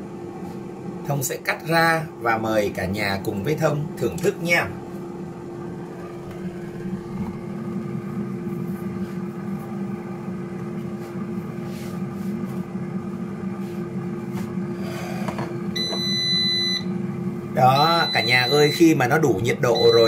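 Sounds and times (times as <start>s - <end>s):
air fryer fan humming: 0.0s - 20.0s.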